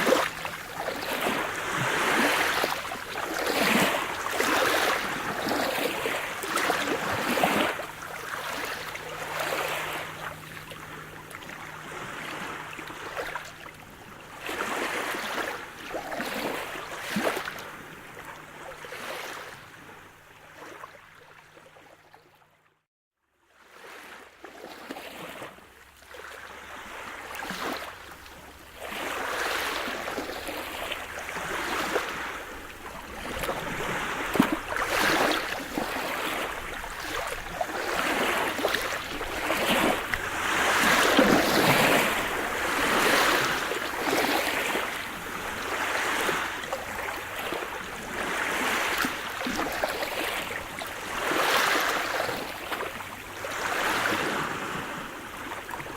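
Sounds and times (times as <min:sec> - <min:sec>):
waves washing and breaking: 0:00.0 - 0:19.7, 0:26.2 - 0:55.9.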